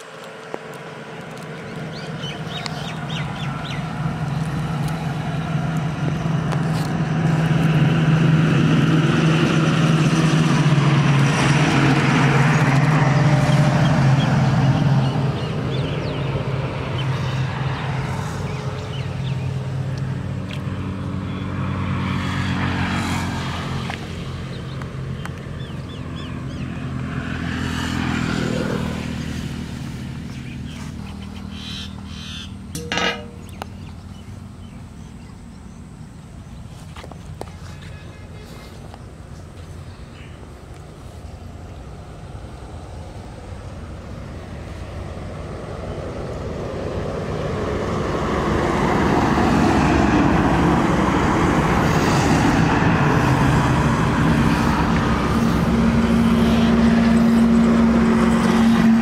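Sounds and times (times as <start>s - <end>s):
vehicles passing on road: 0.0s - 59.0s.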